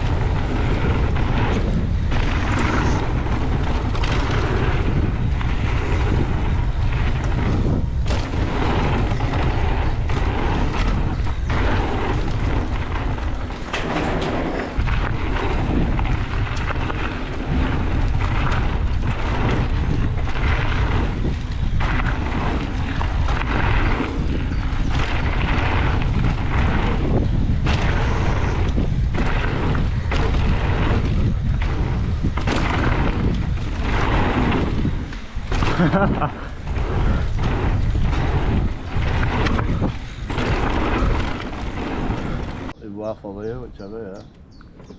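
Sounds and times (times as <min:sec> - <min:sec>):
bike knocking and rattling: 0:00.0 - 0:42.8
bike tyre noise on dirt: 0:00.0 - 0:44.9
wind buffeting microphone: 0:00.0 - 0:44.9.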